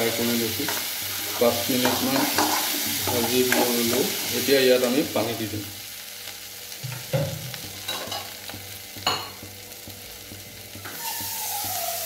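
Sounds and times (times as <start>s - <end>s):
lentils sizzling in oil: 0.0s - 12.0s.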